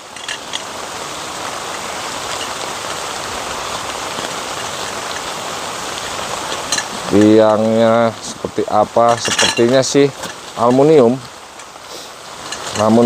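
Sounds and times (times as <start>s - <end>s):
rain on tarp: 0.0s - 13.0s.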